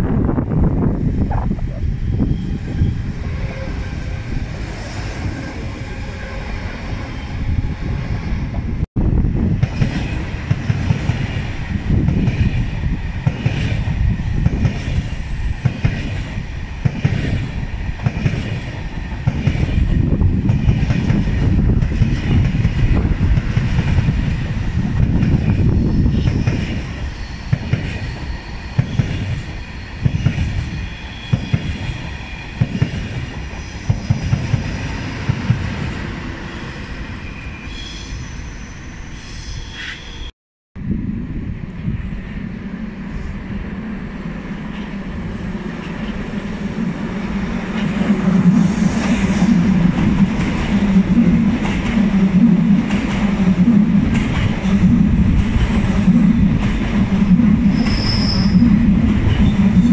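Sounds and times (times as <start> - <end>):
electric train passing: 0.0 - 59.9
high-speed train rumbling past: 0.0 - 59.9.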